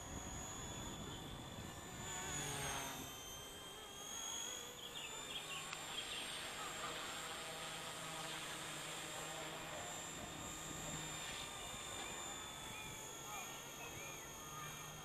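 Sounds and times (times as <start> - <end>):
rc helicopter high whine: 0.0 - 15.0.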